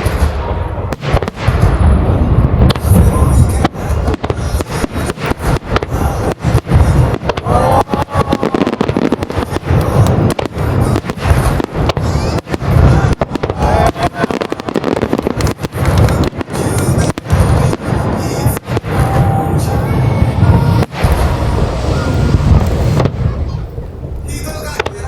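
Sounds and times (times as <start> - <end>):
fireworks booming and cracking: 0.0 - 25.0.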